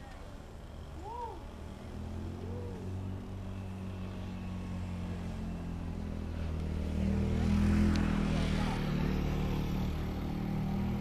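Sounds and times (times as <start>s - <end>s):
propeller engines droning: 0.0s - 11.0s.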